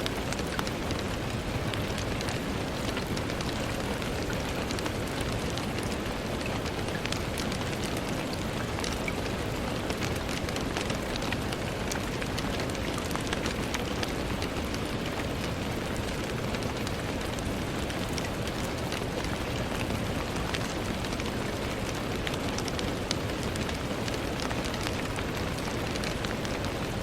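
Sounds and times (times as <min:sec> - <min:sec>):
rain on a window: 0:00.0 - 0:27.0.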